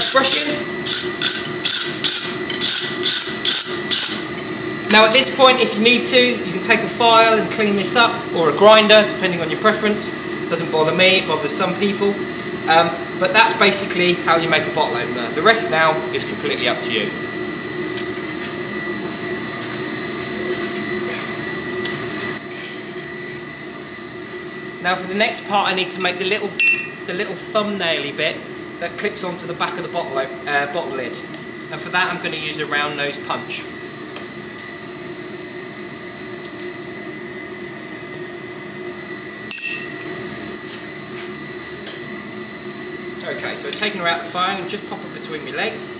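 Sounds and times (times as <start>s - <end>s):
forge air blower humming: 0.0s - 45.9s.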